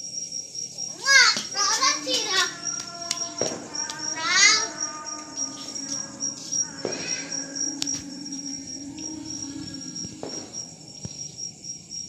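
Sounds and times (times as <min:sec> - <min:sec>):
crickets trilling: 0:00.0 - 0:12.0
faint voice: 0:00.8 - 0:10.8.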